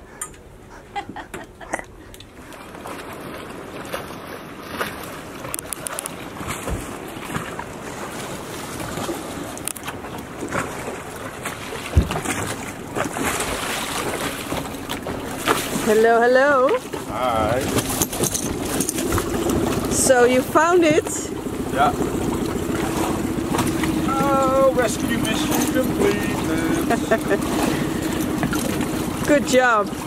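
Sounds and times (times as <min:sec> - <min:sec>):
water rushing around a boat: 0:00.0 - 0:30.0.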